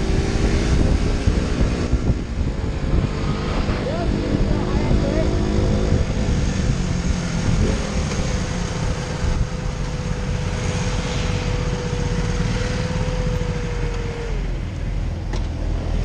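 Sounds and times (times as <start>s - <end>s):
other motorcycles running: 0.0s - 16.0s.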